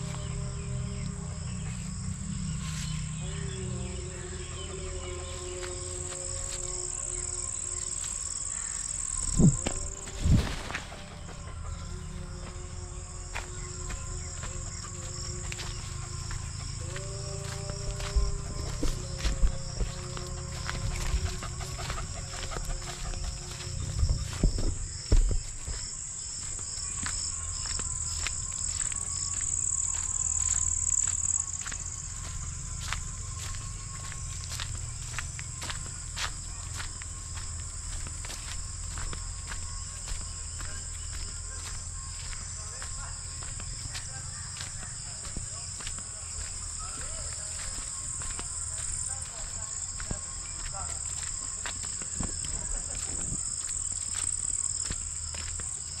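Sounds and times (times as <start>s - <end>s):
footsteps on a path: 0.0s - 56.0s
insect chirping: 0.0s - 56.0s
insect high trill: 0.0s - 56.0s.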